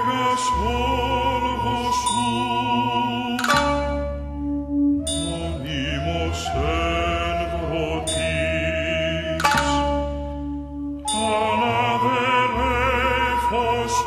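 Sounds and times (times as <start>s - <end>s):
sustained chant-like singing: 0.0s - 4.0s, 5.1s - 10.1s, 11.1s - 14.0s
steady low drone: 0.0s - 14.0s.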